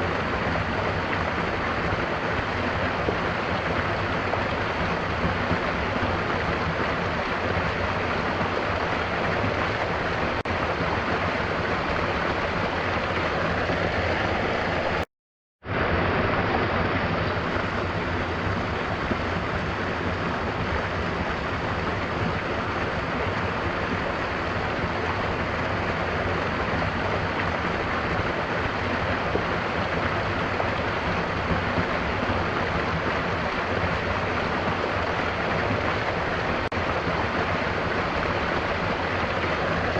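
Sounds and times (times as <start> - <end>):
waterfall rushing: 0.0 - 15.1, 15.7 - 39.9
gentle rain: 0.0 - 39.9.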